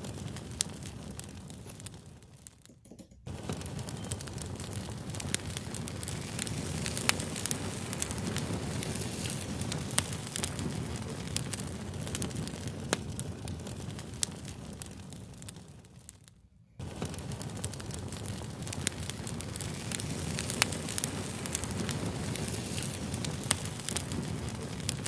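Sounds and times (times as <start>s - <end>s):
fire crackling: 0.0s - 25.0s.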